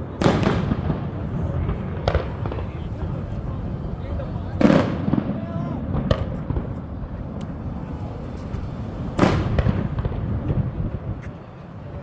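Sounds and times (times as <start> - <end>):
firework bang with rumble: 0.2 - 3.2, 4.6 - 11.2.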